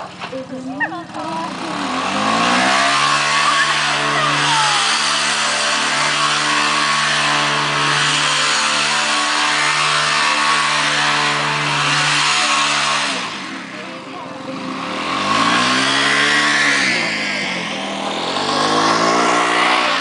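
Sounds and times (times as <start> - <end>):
atv engine running at high revs: 0.0 - 20.0.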